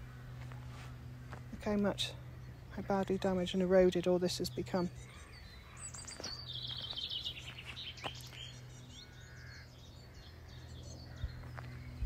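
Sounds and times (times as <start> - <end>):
low hum: 0.0 - 12.0
songbird singing: 0.0 - 12.0.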